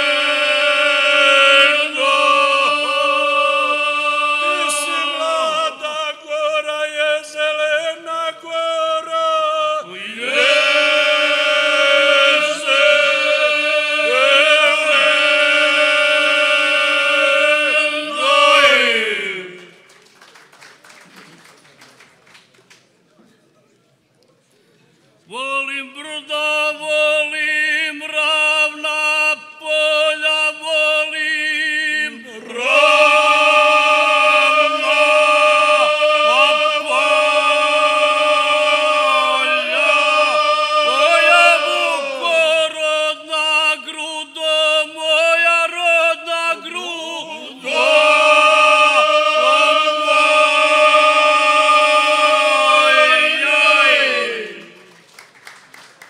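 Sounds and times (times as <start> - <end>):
men singing unaccompanied: 0.0 - 19.6, 25.6 - 54.7.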